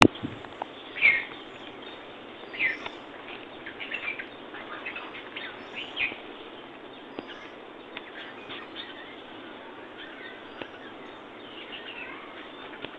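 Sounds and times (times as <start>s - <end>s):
birds chirping: 0.0s - 12.9s
steady background hiss: 0.0s - 12.9s.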